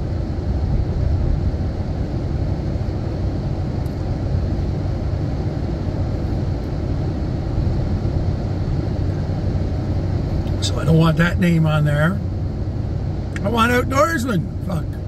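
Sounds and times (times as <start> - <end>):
pickup road and engine rumble: 0.0 - 15.0.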